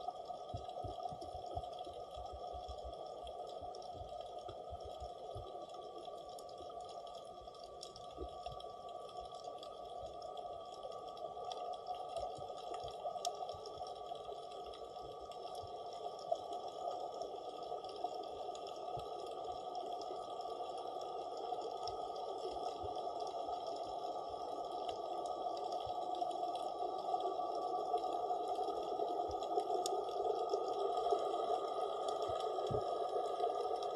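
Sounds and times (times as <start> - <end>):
muffled underwater hiss: 0.0 - 33.9
faint clicks: 0.1 - 33.9.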